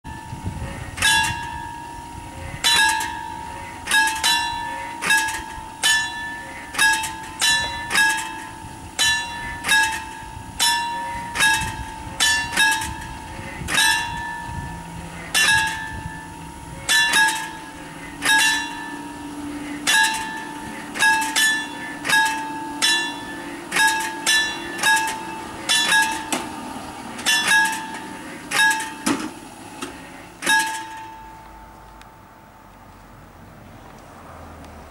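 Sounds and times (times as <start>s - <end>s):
low steady hum: 0.1s - 34.1s
level-crossing bell ringing: 1.0s - 29.1s, 30.4s - 32.6s.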